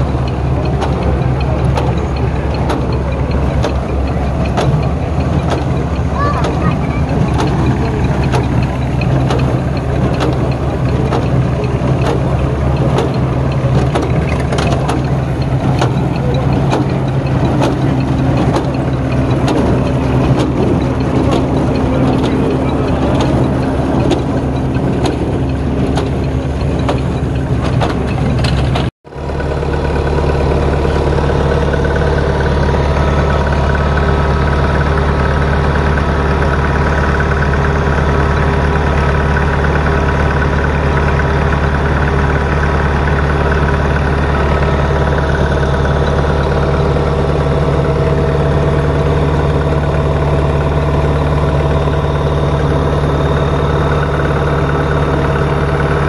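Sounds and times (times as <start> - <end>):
rapid clicking of baler: 0.0 - 56.0
threshing machine running: 0.0 - 56.0
tractor engine running: 0.0 - 56.0.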